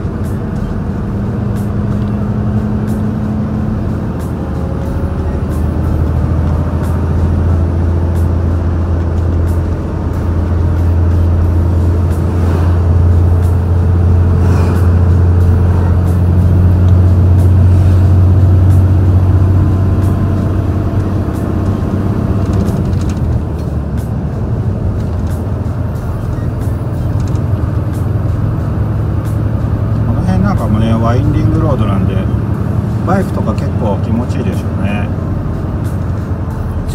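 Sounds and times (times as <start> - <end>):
truck diesel engine pulling hard: 0.0 - 36.9.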